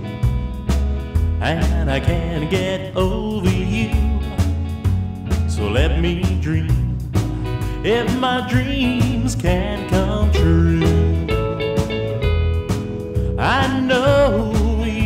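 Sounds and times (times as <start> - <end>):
country song background music: 0.0 - 15.0.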